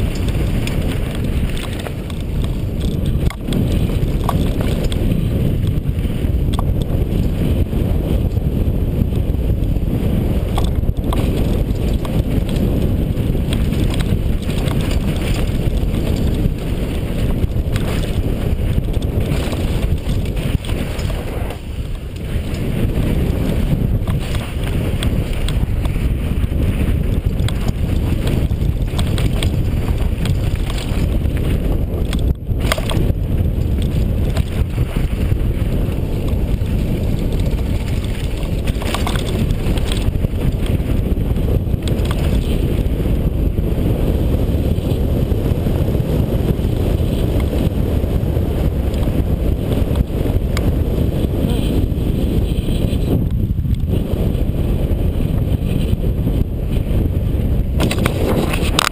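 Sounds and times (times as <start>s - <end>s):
bike rattling over bumps: 0.0s - 58.9s
bike tyres rumbling on gravel: 0.0s - 58.9s
wind rushing over microphone: 0.0s - 58.9s.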